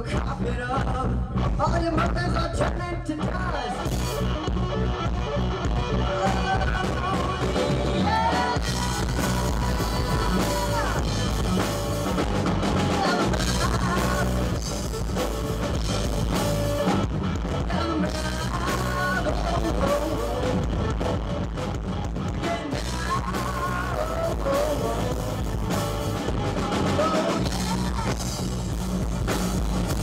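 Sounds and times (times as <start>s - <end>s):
rock band playing live: 0.0s - 30.0s
bending melody line: 2.0s - 30.0s
drum kit beat: 3.2s - 30.0s.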